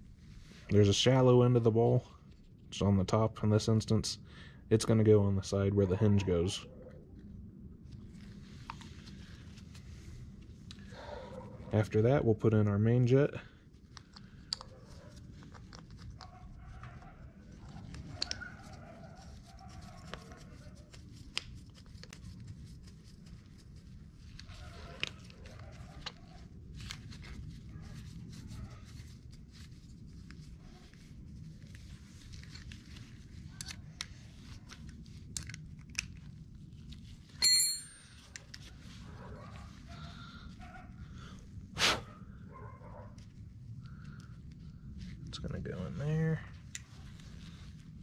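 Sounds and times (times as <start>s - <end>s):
steady low hum: 2.0s - 48.0s.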